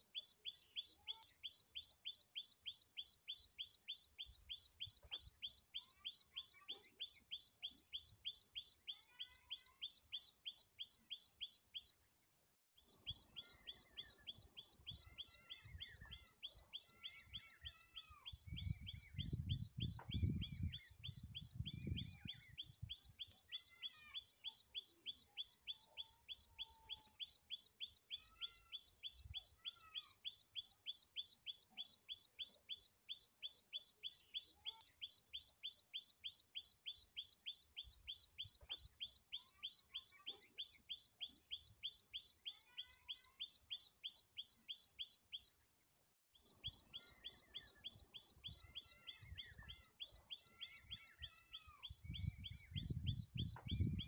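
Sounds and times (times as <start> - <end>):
other birds chirping: 0.0 - 12.2, 12.8 - 45.7, 46.4 - 54.0.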